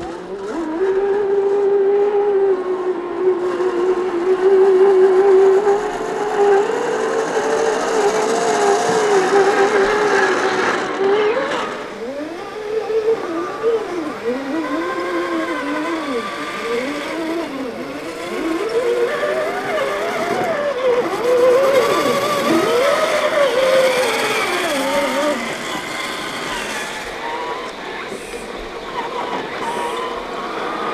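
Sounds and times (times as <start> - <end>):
rc truck motors whining: 0.0 - 30.9.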